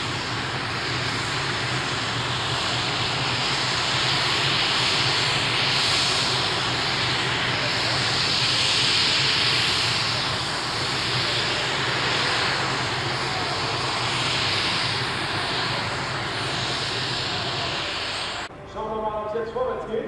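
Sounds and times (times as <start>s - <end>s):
tractor engine at full power: 0.0s - 18.5s.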